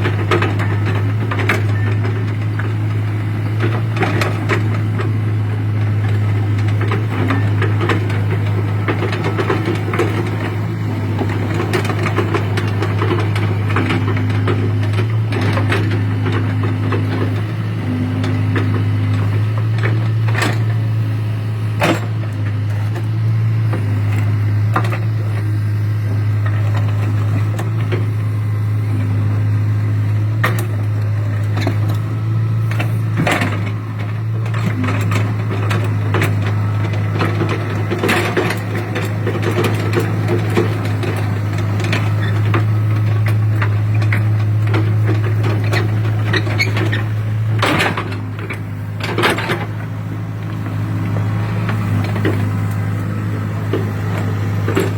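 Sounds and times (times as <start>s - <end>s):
diesel engine running: 0.0s - 54.9s
digging knocks and clanks: 0.0s - 54.9s.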